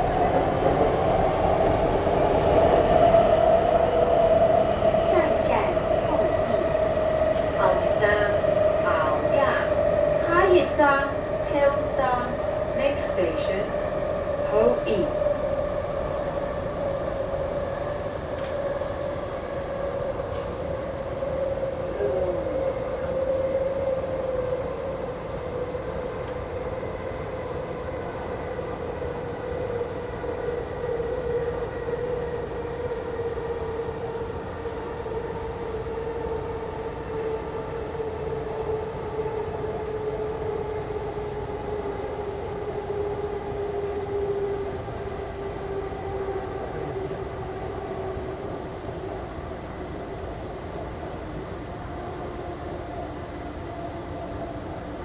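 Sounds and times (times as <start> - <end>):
train wheel and track rumble: 0.0 - 55.0.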